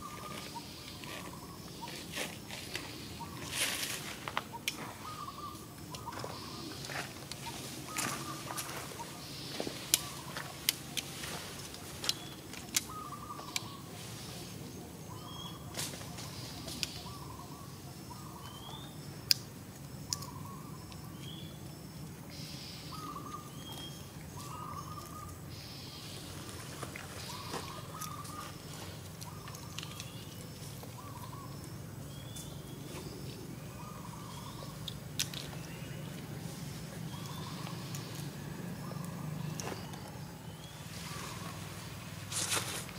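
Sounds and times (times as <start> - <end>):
birds chirping: 0.0 - 42.9
steady low hum: 0.0 - 42.9.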